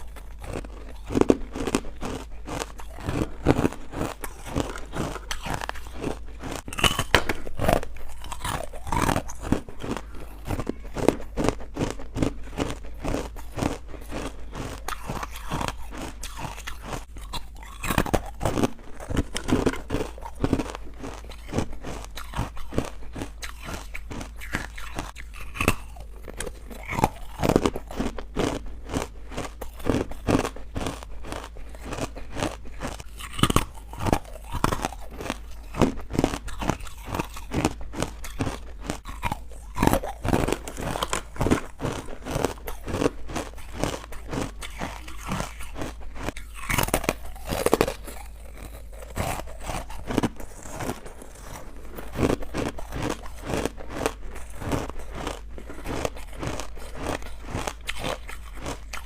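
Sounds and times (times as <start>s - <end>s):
person chewing crunchy ice: 0.0s - 59.0s.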